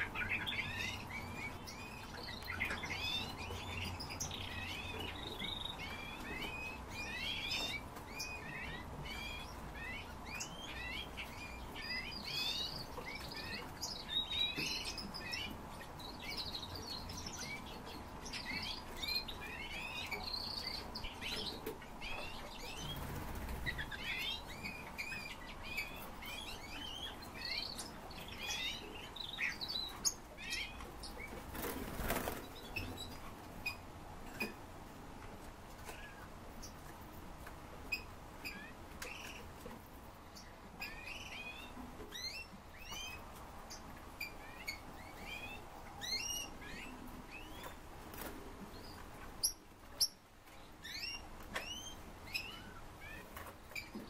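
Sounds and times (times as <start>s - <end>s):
caged birds chirping: 0.0s - 54.0s.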